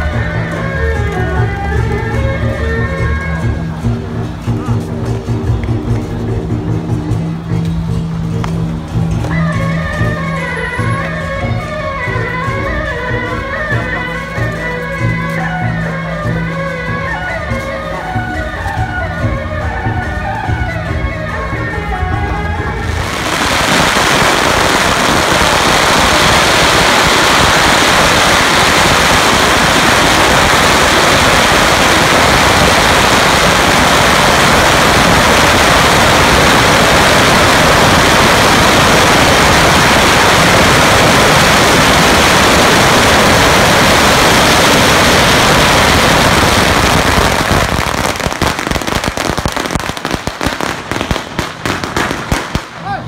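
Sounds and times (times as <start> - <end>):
firecrackers crackling: 0.0 - 53.0.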